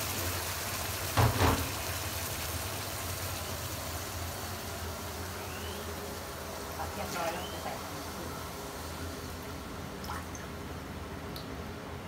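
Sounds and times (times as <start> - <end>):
pot simmering hiss: 0.0 - 11.6.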